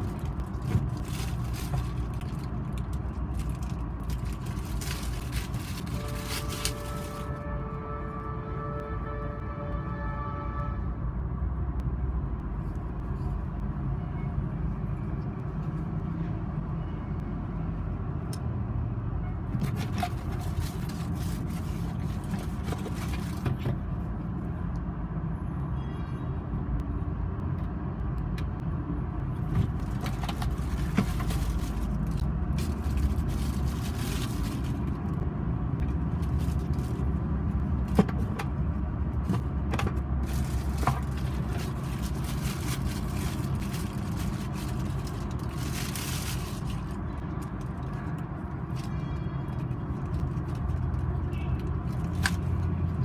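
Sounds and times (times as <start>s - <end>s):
engine and road noise rumble: 0.0s - 53.0s.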